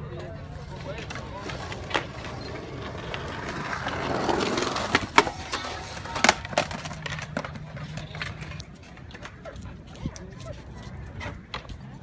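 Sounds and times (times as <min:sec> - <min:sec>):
skateboard wheels rolling on concrete: 0:00.0 - 0:12.0
skateboard clacking on concrete: 0:00.2 - 0:10.5.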